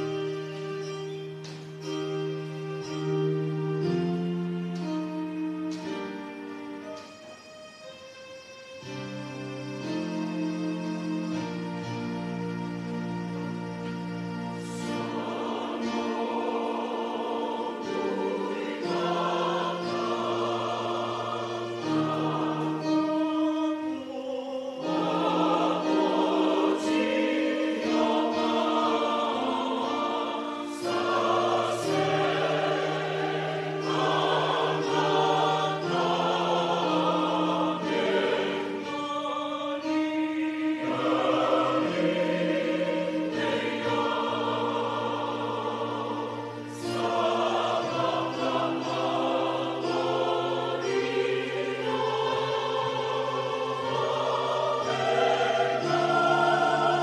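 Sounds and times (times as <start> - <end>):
choir singing in parts: 0.0 - 7.5, 8.8 - 57.0.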